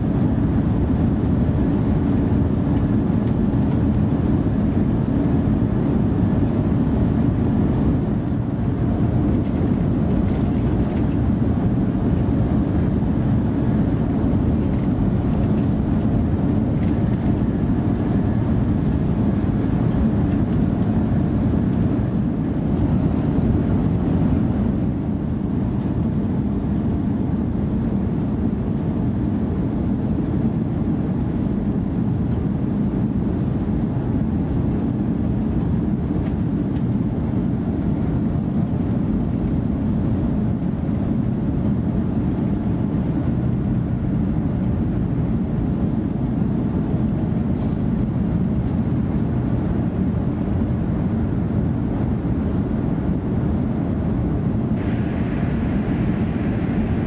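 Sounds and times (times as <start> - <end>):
train rumble from inside: 0.0 - 57.0.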